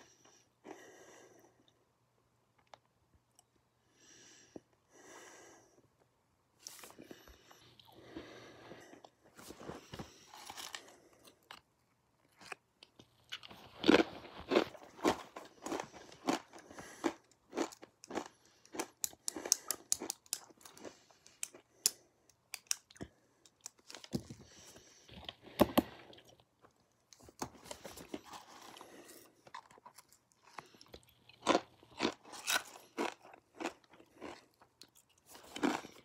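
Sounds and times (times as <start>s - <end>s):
person chewing crunchy food: 6.6s - 36.0s.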